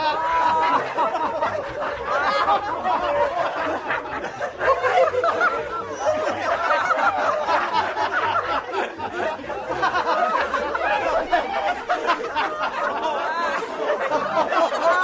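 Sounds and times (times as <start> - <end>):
people laughing and giggling: 0.0 - 15.0.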